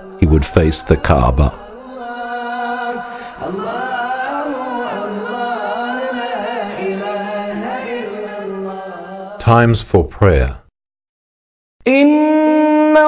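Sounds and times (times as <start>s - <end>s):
man chanting: 0.0s - 10.6s, 11.9s - 13.0s.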